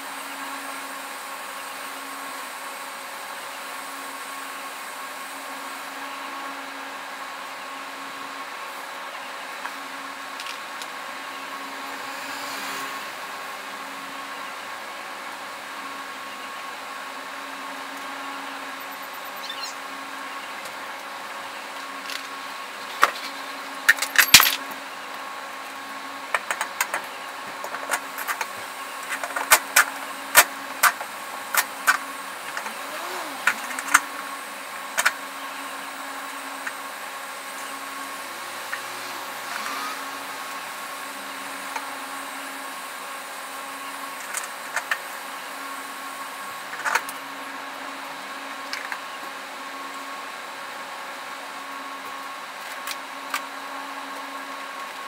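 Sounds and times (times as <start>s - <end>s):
workshop hum: 0.0s - 55.0s.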